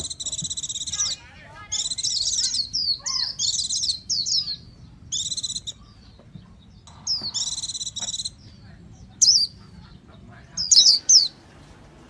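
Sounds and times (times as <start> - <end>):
bird twittering warble: 0.0 - 11.4.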